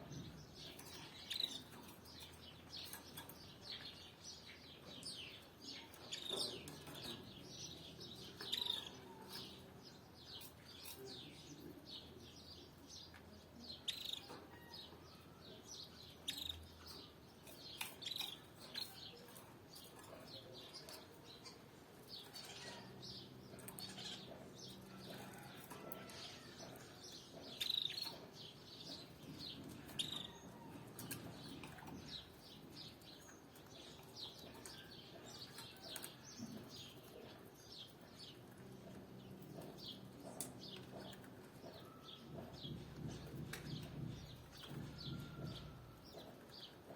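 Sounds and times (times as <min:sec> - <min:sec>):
canaries chirping: 0:00.0 - 0:46.9.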